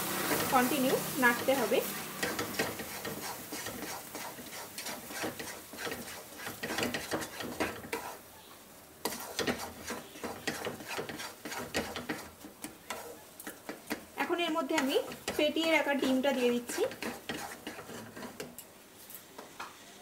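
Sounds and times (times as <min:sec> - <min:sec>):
wooden spatula scraping a pan: 0:00.2 - 0:08.3, 0:09.0 - 0:18.6.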